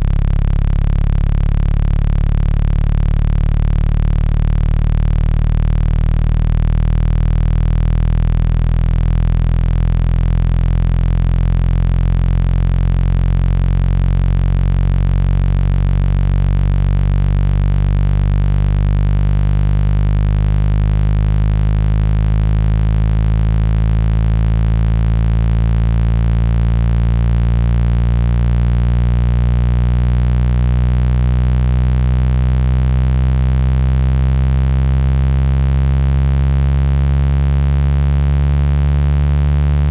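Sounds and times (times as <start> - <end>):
low electronic tone: 0.0 - 39.9.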